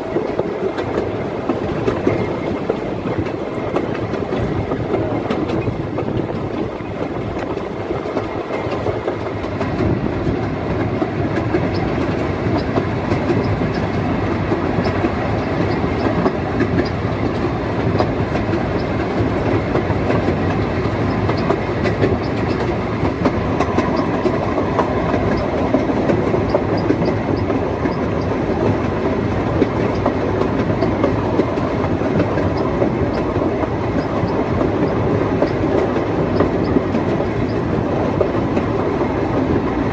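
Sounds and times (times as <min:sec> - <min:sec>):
steam locomotive running: 0:00.0 - 0:39.9.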